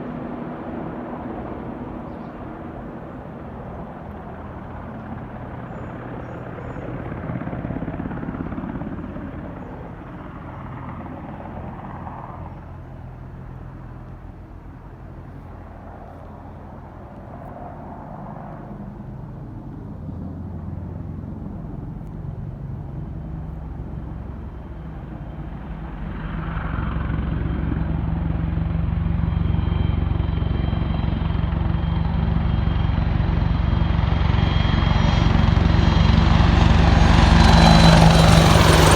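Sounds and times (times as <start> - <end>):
helicopter rotor beat: 0.0 - 38.9.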